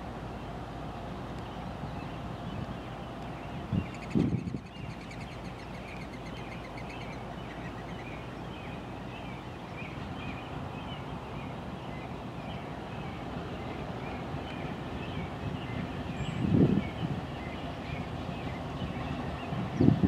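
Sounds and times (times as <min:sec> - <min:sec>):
birds chirping: 0:00.2 - 0:20.0.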